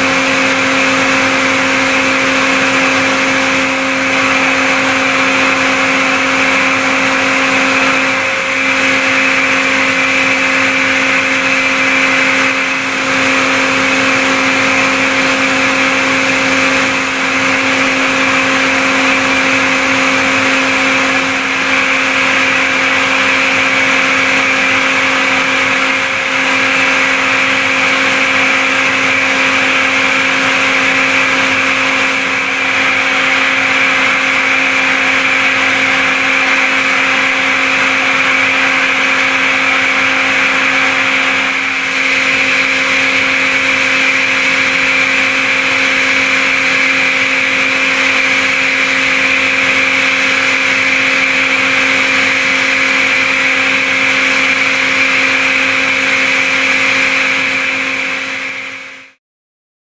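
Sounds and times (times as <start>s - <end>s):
milling machine spindle whine: 0.0s - 59.2s.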